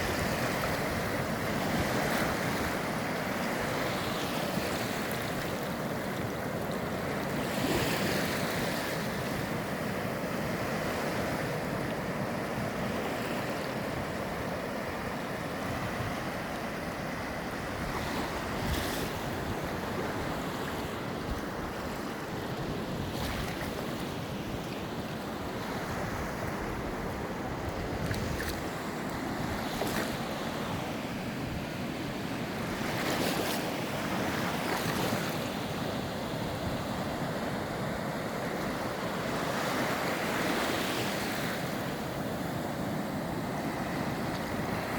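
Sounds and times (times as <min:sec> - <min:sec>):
waves rushing: 0:00.0 - 0:44.9
wind: 0:00.0 - 0:44.9.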